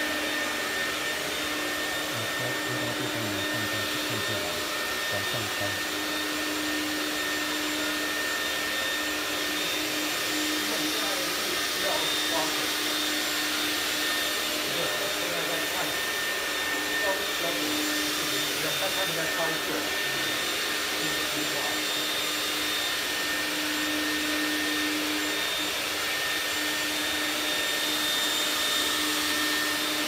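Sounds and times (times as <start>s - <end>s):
floor scrubber motor whine: 0.0s - 30.0s.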